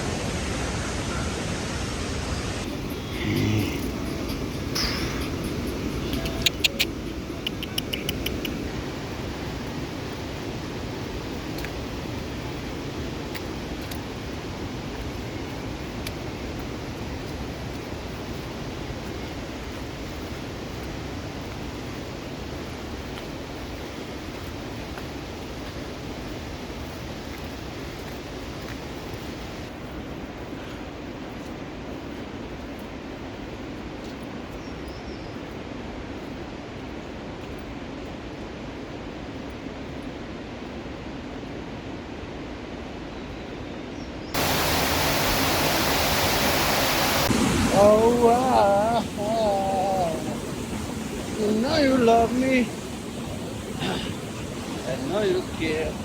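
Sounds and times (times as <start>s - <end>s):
river rushing: 0.0s - 34.6s, 44.3s - 56.0s.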